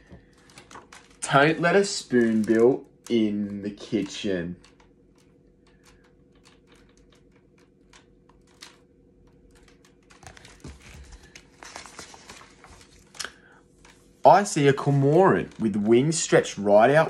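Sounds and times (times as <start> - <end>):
book page turning: 0.0 - 17.0
low steady hum: 0.0 - 17.0.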